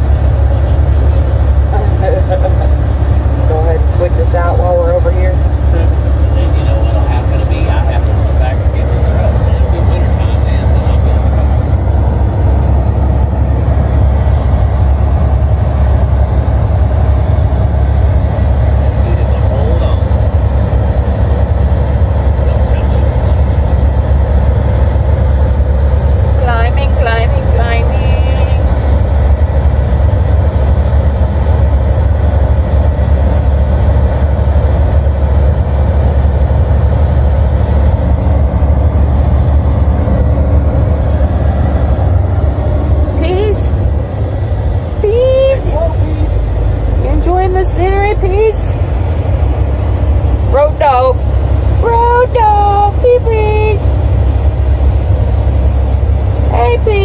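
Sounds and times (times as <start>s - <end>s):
road noise: 0.0s - 57.0s
truck diesel engine droning: 0.0s - 57.0s.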